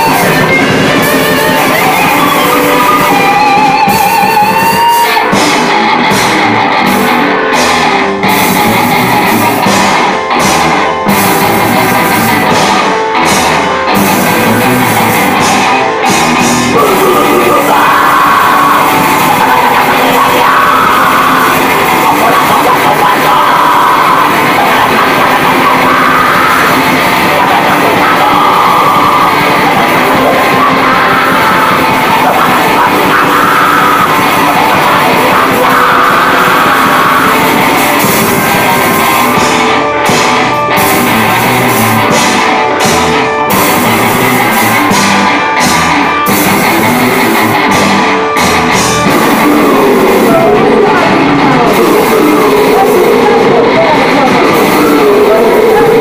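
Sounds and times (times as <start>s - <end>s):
harsh shouted vocals: 0.0s - 56.0s
heavy metal song: 0.0s - 56.0s.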